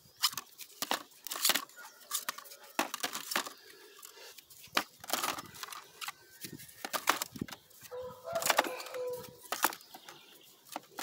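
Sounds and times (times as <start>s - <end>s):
plastic jars clicking and knocking: 0.1s - 11.0s.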